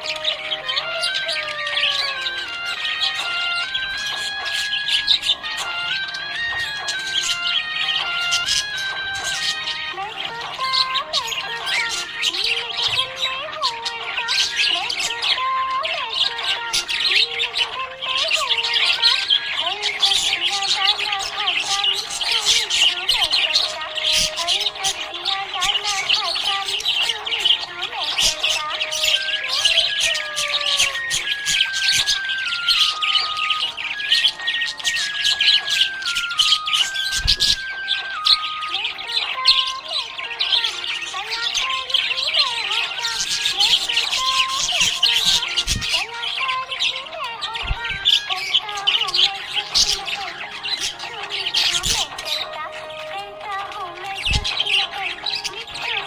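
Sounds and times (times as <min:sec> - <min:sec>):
budgerigars chirping and warbling: 0:00.0 - 0:56.0.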